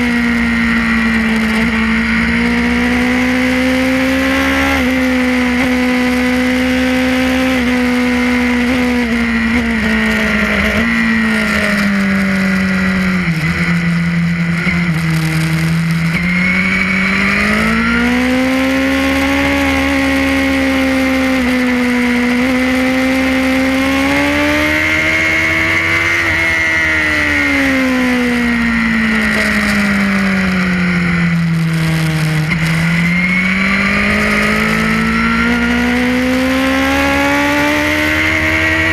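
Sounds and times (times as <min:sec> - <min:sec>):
motorcycle engine at racing speed: 0:00.0 - 0:38.9.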